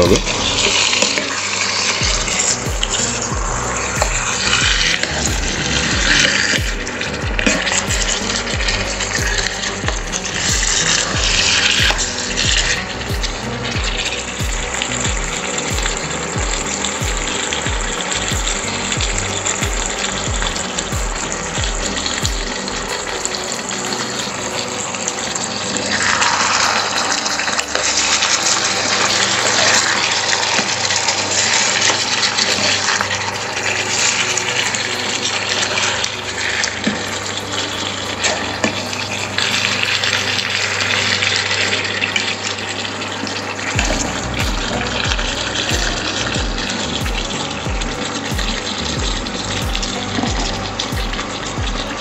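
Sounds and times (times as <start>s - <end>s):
meat sizzling in hot oil: 0.0s - 52.0s.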